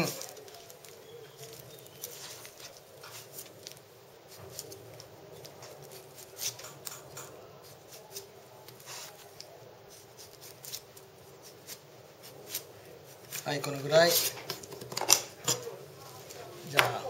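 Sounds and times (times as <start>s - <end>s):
knife scraping pineapple: 0.0s - 17.0s.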